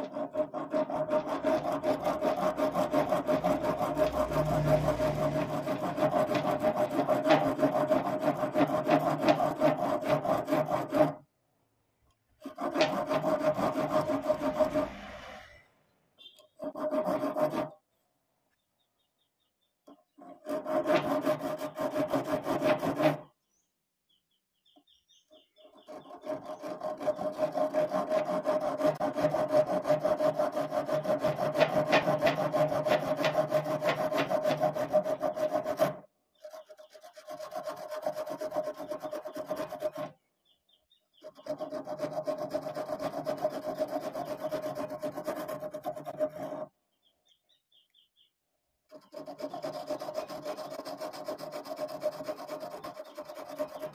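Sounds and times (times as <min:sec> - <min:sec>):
tool rasping spinning wood: 0:00.0 - 0:11.2, 0:12.4 - 0:15.6, 0:16.6 - 0:17.8, 0:20.2 - 0:23.3, 0:25.6 - 0:40.2, 0:41.2 - 0:46.7, 0:48.9 - 0:53.9.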